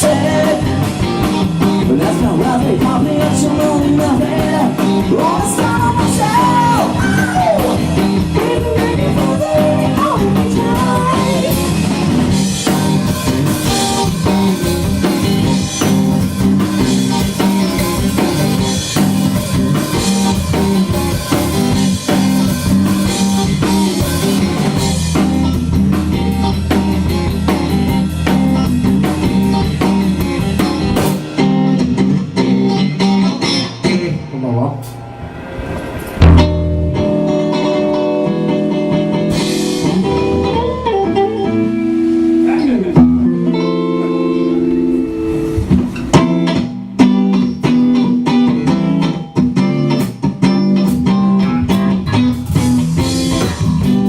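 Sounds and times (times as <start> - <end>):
bending lead guitar melody: 0.0 - 35.1, 36.2 - 54.0
live rock band playing: 0.0 - 54.0.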